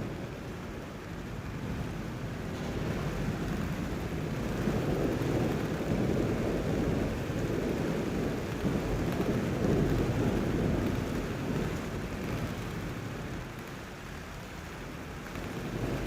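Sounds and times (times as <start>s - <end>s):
thunder rumbling: 0.0s - 13.4s.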